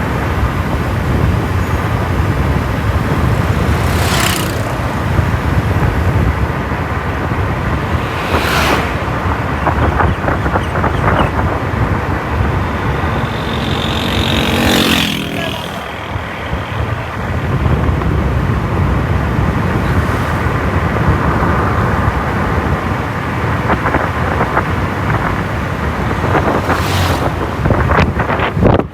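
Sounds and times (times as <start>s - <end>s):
wind buffeting the microphone: 0.0s - 15.2s, 15.8s - 28.9s
passing vehicle: 0.0s - 28.9s
road traffic: 0.0s - 28.9s.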